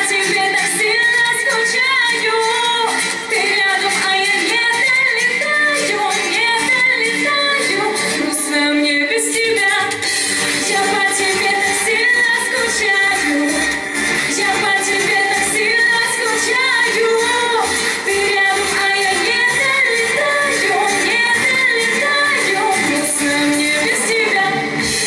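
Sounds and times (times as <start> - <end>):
woman singing pop song: 0.0 - 25.0.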